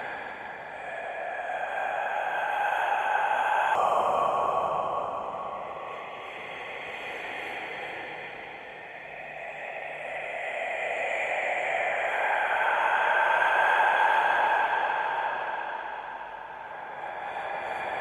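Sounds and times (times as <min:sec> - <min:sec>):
breathy hissing whisper: 0:00.0 - 0:18.0.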